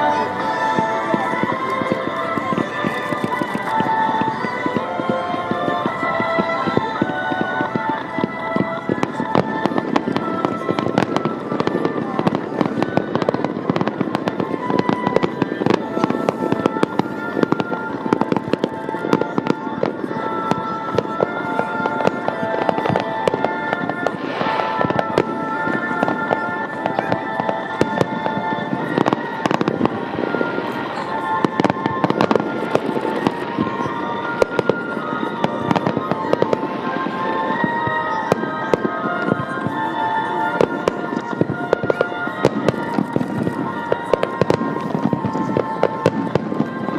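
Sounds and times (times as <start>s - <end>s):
fireworks crackling: 0.0s - 46.9s
music playing: 0.0s - 46.9s.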